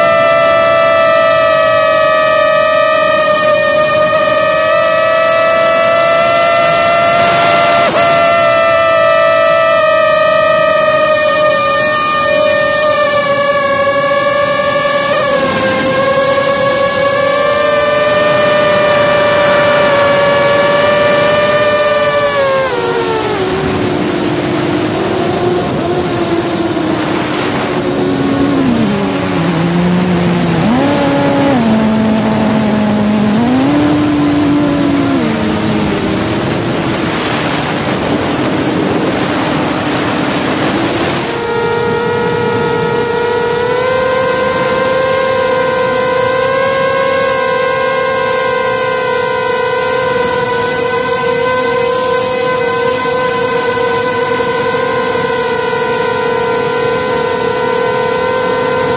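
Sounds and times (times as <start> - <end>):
drone propellers whining: 0.0 - 58.9.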